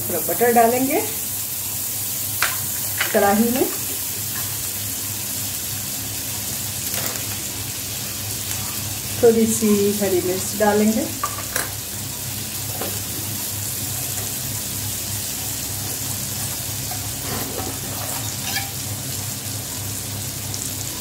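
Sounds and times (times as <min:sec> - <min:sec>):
chillies sizzling in butter: 0:00.0 - 0:21.0.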